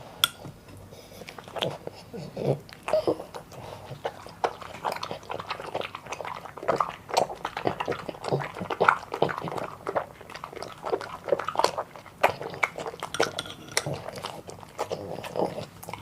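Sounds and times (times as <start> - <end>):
puppy chewing and crunching: 0.0 - 16.0.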